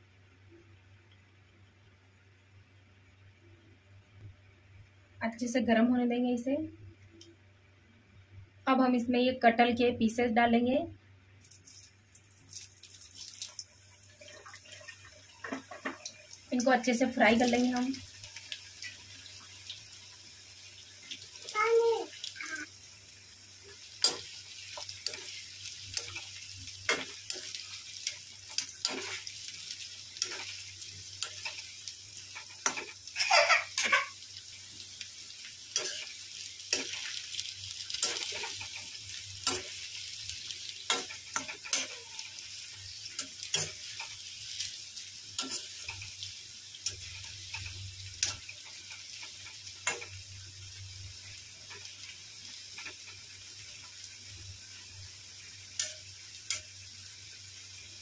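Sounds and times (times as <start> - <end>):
deep-frying sizzle: 11.2 - 58.0.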